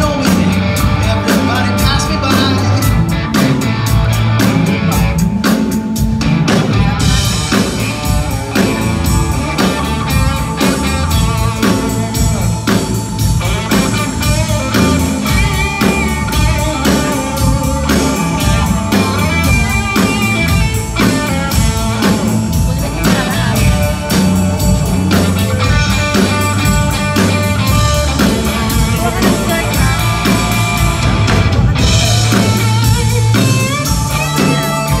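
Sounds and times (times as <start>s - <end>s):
bass guitar: 0.0s - 35.0s
drum kit steady beat: 0.0s - 35.0s
electric guitar: 0.0s - 35.0s.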